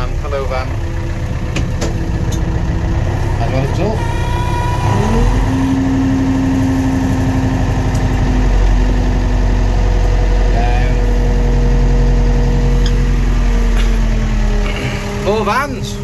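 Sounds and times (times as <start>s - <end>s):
engine whine: 0.0s - 16.0s
tractor diesel engine running: 0.0s - 16.0s.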